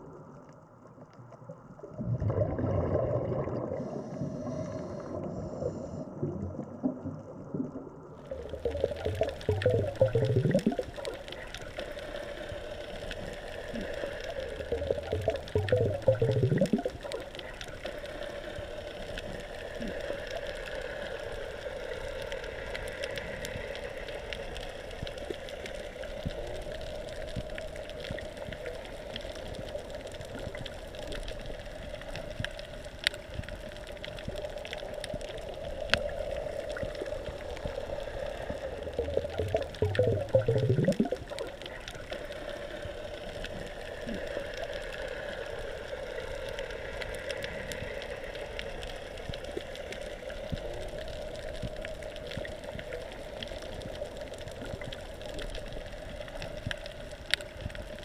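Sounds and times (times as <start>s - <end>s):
steady underwater hiss: 0.0s - 6.9s, 7.9s - 58.0s
exhaled bubbles gurgling: 0.0s - 58.0s
faint clicks: 8.2s - 58.0s.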